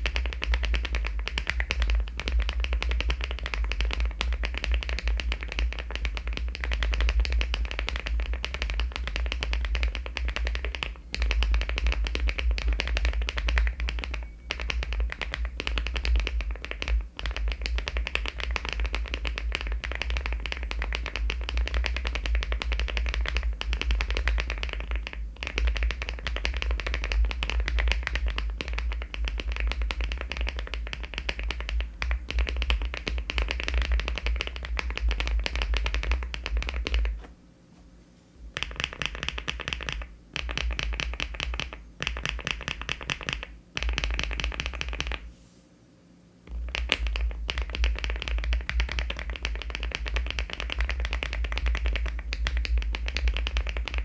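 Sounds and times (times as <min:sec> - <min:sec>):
mechanical keyboard typing: 0:00.0 - 0:37.2, 0:38.6 - 0:45.2, 0:46.5 - 0:54.0.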